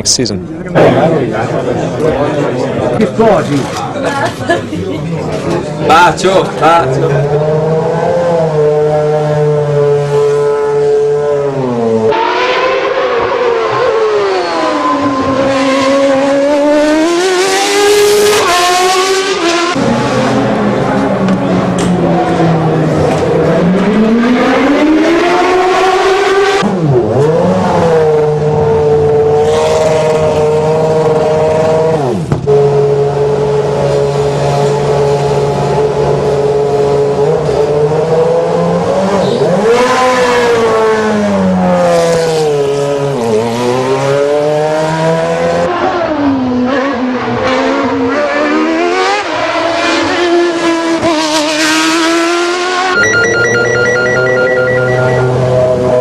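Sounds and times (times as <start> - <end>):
racing car engine revving: 6.3 - 53.0.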